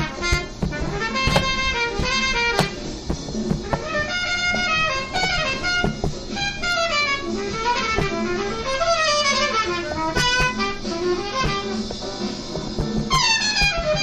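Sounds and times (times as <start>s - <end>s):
drum beat: 0.0s - 14.0s
jazzy horn melody: 0.0s - 14.0s.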